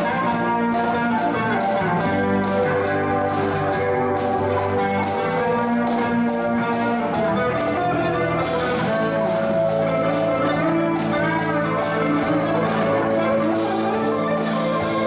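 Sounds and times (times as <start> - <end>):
live band instrumental: 0.0 - 15.0.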